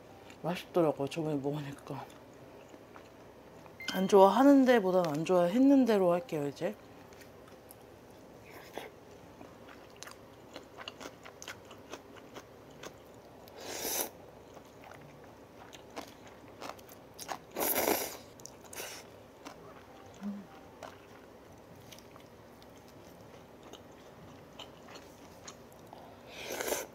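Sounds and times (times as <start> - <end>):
soft chewing: 1.8 - 3.8, 7.0 - 26.9.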